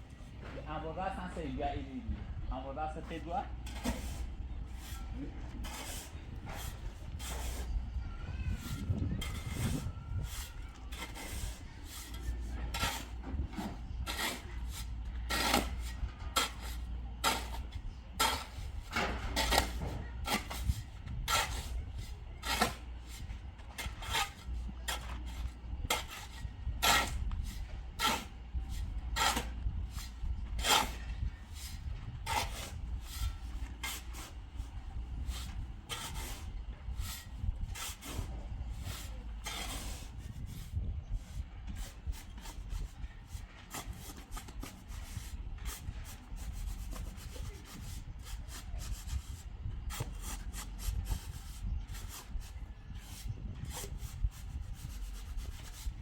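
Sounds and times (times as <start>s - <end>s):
low steady hum: 0.0s - 56.0s
short scraping strokes: 3.6s - 7.8s, 8.5s - 56.0s.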